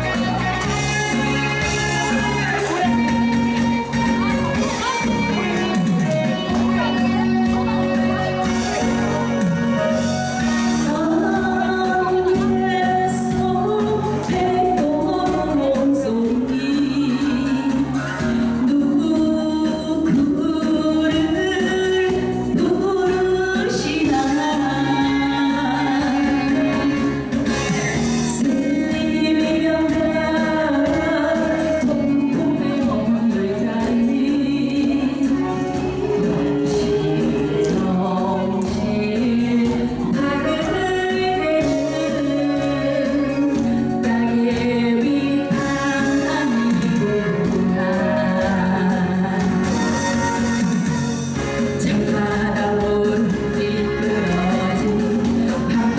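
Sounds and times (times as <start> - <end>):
backing track: 0.0 - 55.9
instrumental accompaniment: 0.0 - 55.9
woman singing: 0.0 - 55.9.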